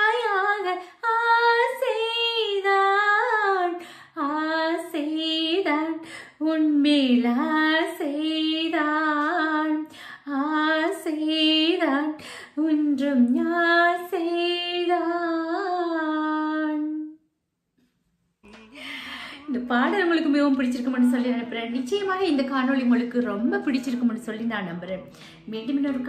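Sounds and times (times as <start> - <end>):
woman singing unaccompanied: 0.0 - 17.2, 19.2 - 26.0.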